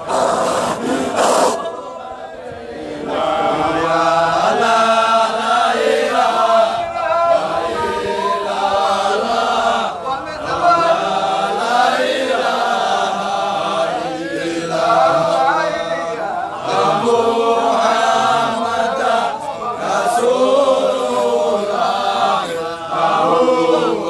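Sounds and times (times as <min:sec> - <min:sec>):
group of voices chanting: 0:00.0 - 0:24.0.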